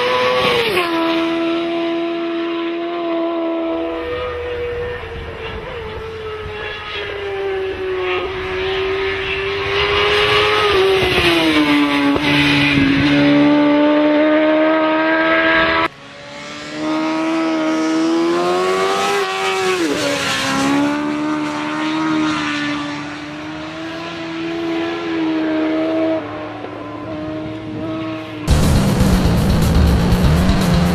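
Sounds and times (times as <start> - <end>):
motorcycle engine at high revs: 0.0 - 30.9.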